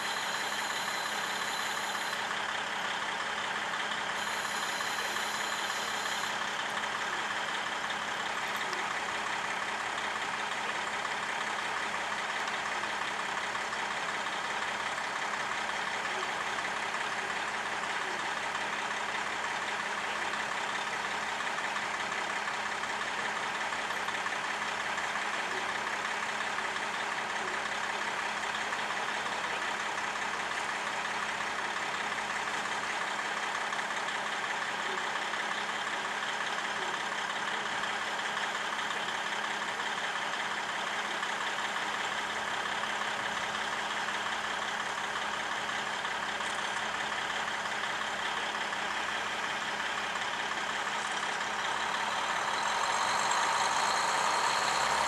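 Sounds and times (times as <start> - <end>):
diesel railcar engine idling: 0.0 - 55.0.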